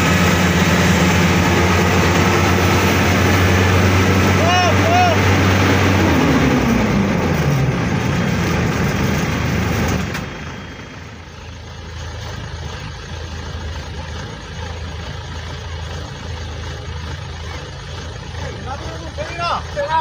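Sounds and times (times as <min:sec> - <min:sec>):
combine harvester engine: 0:00.0 - 0:20.0.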